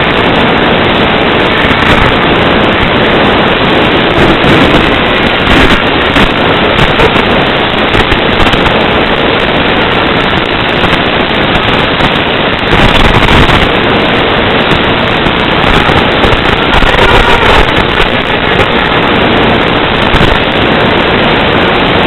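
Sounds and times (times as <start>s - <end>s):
crackling static hiss: 0.0s - 22.0s.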